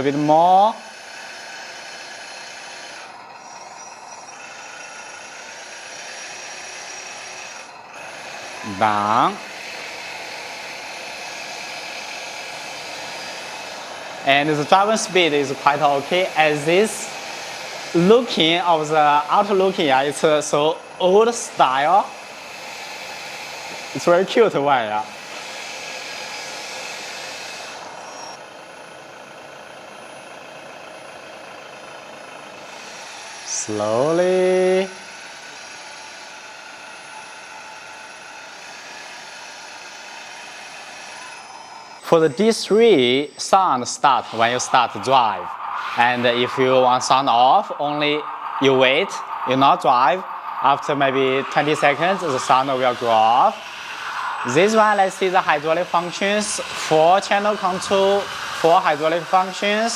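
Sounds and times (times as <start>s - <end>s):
electric motor whine and hiss: 0.0s - 59.9s
toy bulldozer mechanical noise: 0.0s - 59.9s.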